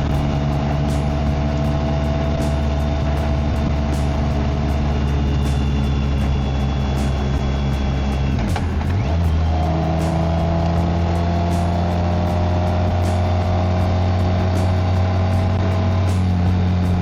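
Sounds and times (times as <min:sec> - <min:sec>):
motorcycle engine and exhaust running: 0:00.0 - 0:17.0
road noise: 0:00.0 - 0:17.0
wind noise: 0:00.0 - 0:17.0.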